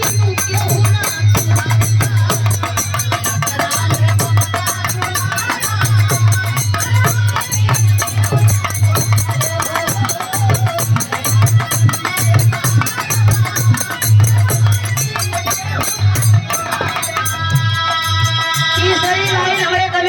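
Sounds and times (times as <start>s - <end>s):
jingling hand percussion: 0.0s - 20.0s.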